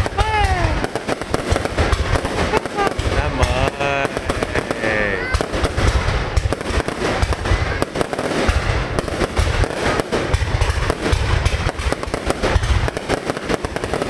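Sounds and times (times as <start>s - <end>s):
deep fireworks booms: 0.0s - 14.0s
fireworks bangs and crackles: 0.0s - 14.0s.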